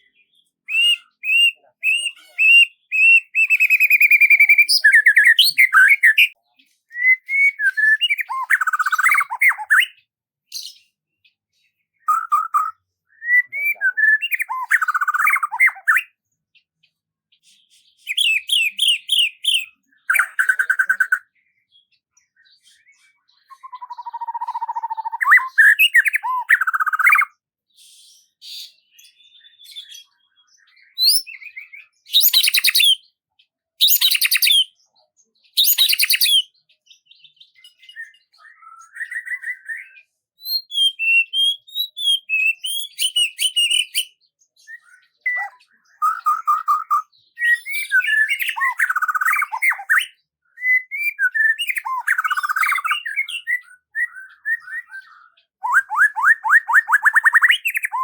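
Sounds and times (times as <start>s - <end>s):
songbird singing: 0.0s - 27.4s, 28.3s - 33.2s, 33.8s - 58.0s.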